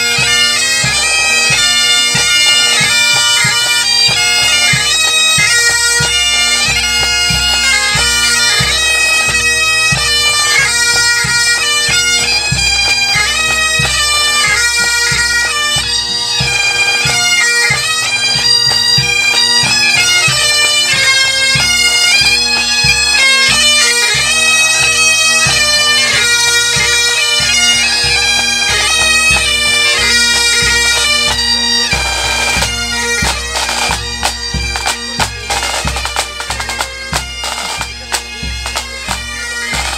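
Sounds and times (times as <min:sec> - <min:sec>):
bagpipe drones: 0:00.0 - 0:39.9
bagpipes playing a tune: 0:00.0 - 0:39.9
marching drums: 0:00.0 - 0:39.9.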